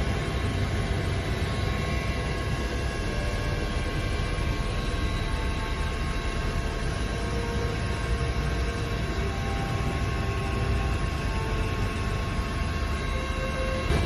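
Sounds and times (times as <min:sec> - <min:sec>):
aircraft turbine engines droning: 0:00.0 - 0:14.0.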